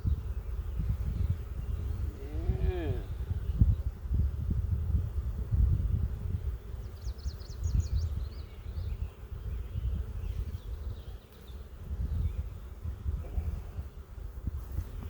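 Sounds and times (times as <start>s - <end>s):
honey bees buzzing: 0.1s - 15.0s.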